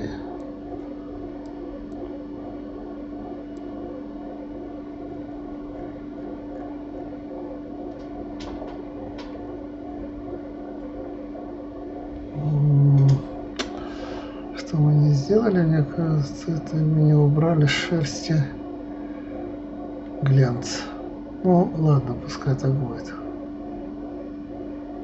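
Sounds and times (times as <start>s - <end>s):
bread machine humming: 0.0s - 25.0s.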